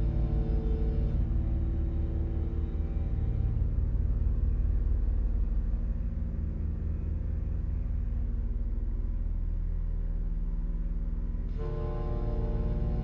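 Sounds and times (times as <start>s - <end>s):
low pulsing rumble: 0.0s - 13.0s.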